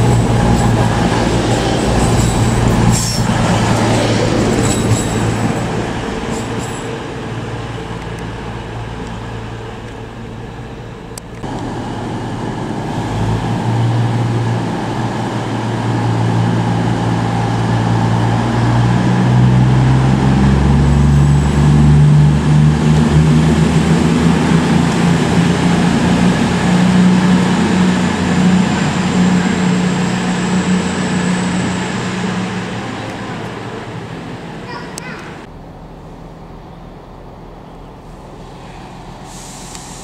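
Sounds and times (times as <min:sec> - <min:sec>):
train diesel engines running: 0:00.0 - 0:40.0.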